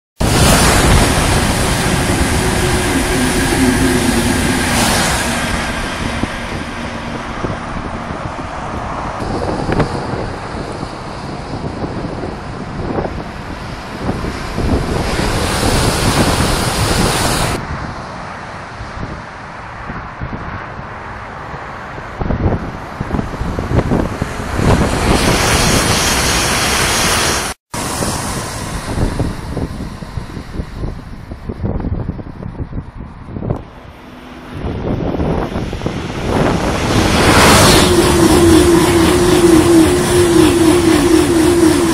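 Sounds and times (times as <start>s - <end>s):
high-speed train rushing past: 0.2s - 41.9s
low train hum: 0.2s - 41.9s
wind buffeting microphone: 0.2s - 41.9s.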